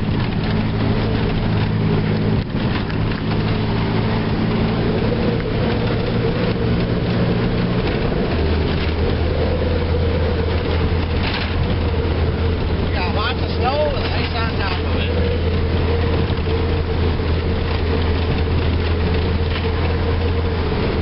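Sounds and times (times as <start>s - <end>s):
pickup engine under load: 0.0s - 21.0s
snow and tyre noise: 0.0s - 21.0s.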